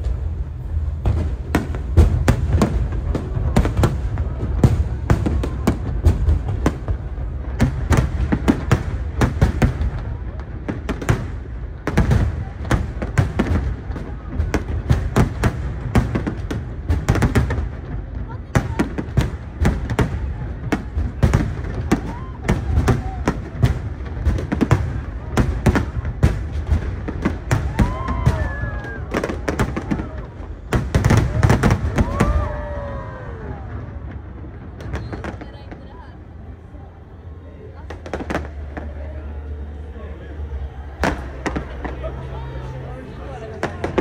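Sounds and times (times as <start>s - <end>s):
continuous low rumble: 0.0s - 44.0s.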